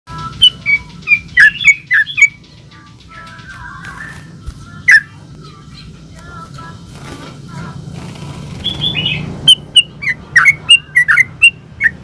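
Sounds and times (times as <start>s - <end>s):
bird chatter: 0.1s - 6.0s, 7.9s - 12.0s
bulbul singing: 0.1s - 12.0s.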